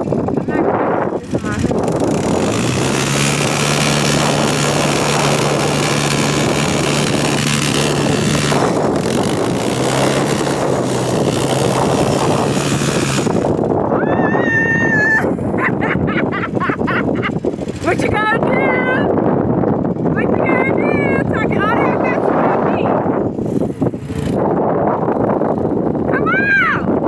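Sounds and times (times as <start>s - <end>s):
atv engine running: 0.0s - 27.0s
wind rushing: 0.0s - 27.0s.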